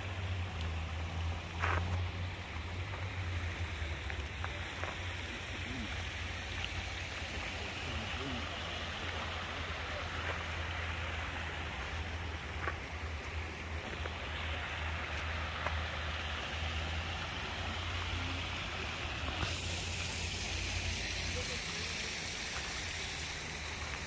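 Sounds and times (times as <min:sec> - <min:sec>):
stream rushing over stones: 0:00.0 - 0:24.0.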